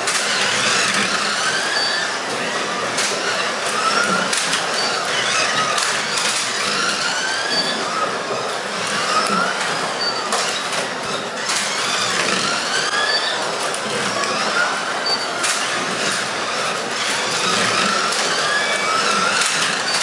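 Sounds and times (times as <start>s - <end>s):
cars running in track slots: 0.0s - 20.0s
slot car motors whining: 0.0s - 20.0s.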